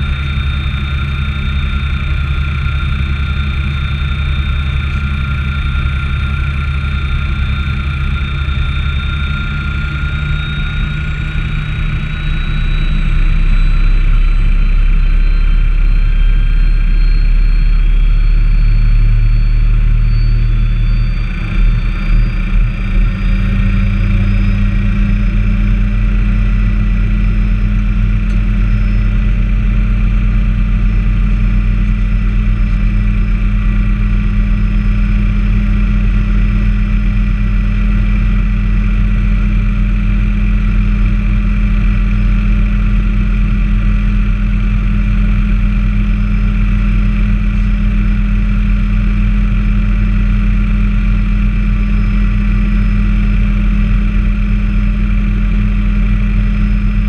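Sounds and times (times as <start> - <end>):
helicopter engine and rotor drone: 0.0 - 57.0
turbine whine: 0.0 - 57.0.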